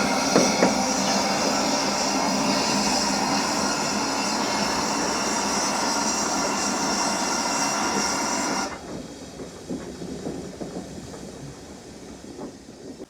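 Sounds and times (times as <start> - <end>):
locomotive rushing noise: 0.0 - 13.0.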